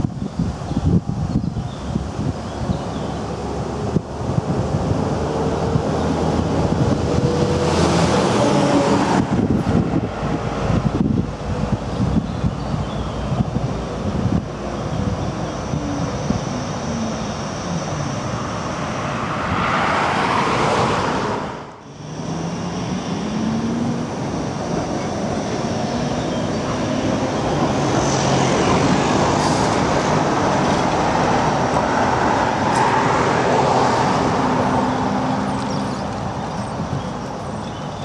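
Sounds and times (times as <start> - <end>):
tram wheels rumbling on track: 0.0 - 38.0
tram motor hum rising: 3.1 - 38.0.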